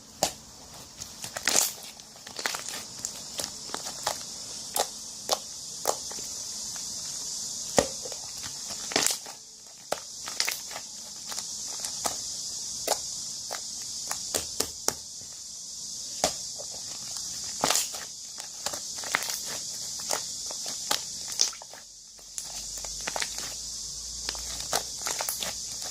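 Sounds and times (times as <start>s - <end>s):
high hiss: 0.0s - 25.9s.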